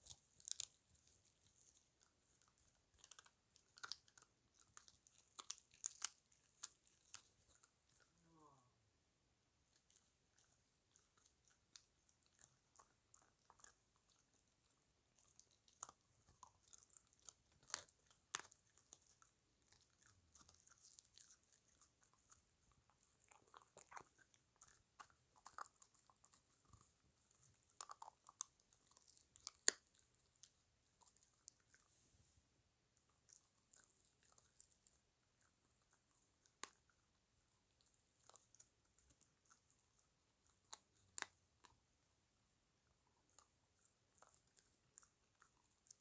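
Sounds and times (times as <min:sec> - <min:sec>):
puppy crunching on bone: 0:00.0 - 0:08.2, 0:09.7 - 0:32.0, 0:33.0 - 0:41.8, 0:42.8 - 0:46.0.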